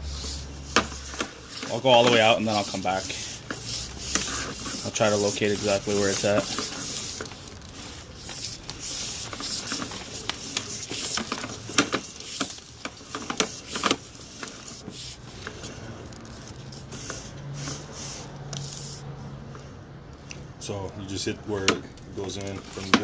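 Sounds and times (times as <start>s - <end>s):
cable scraping and rubbing: 0.0s - 19.0s, 22.2s - 23.0s.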